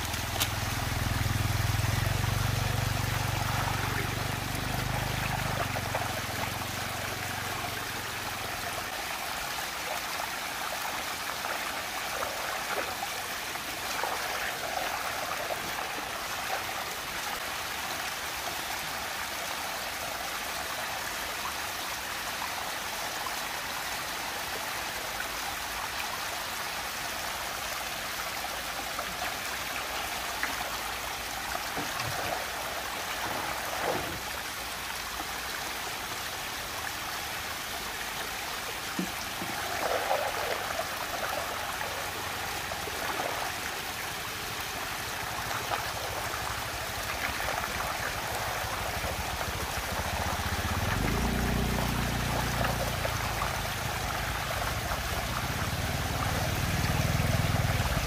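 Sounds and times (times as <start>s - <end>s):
water swirling into whirlpool: 0.0s - 17.8s, 28.8s - 58.0s
small water splashes: 0.0s - 19.4s, 26.9s - 58.0s.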